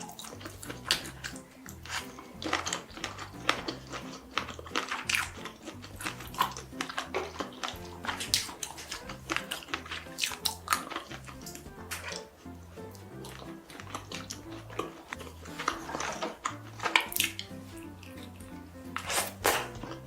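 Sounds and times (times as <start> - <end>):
faint background music: 0.0 - 20.0
person chewing wetly: 0.0 - 20.0.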